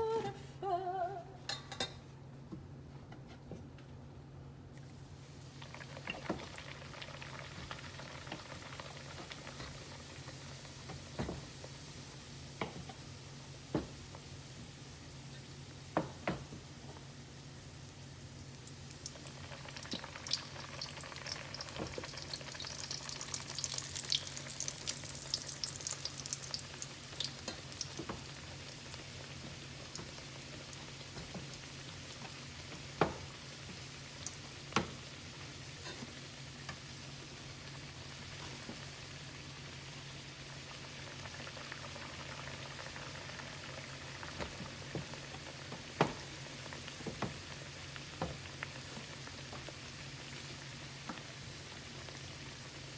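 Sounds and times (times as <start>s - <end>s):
dough sizzling in hot oil: 5.0s - 52.9s.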